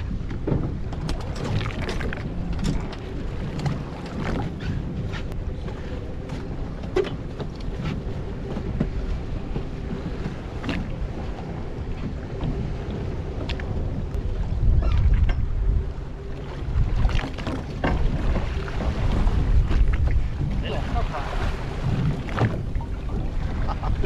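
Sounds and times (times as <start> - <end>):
boat engine humming: 0.0 - 24.0
water slapping against hull: 0.0 - 24.0
wind buffeting microphone: 0.0 - 24.0.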